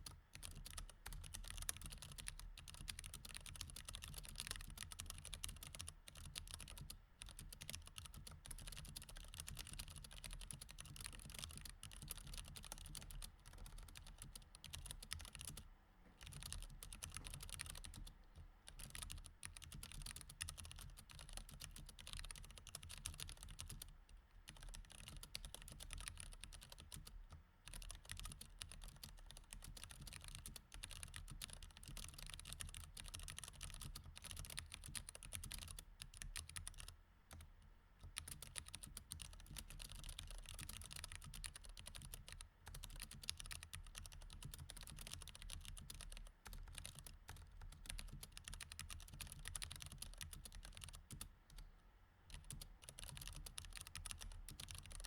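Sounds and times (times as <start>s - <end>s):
mechanical keyboard typing: 0.0s - 15.6s, 16.2s - 18.1s, 18.7s - 51.6s, 52.3s - 55.0s.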